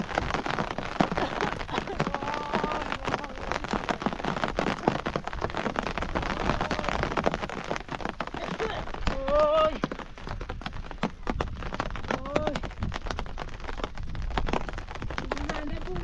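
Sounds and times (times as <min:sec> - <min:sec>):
raindrops ticking on surfaces: 0:00.0 - 0:16.0
steady rain falling: 0:00.0 - 0:16.0.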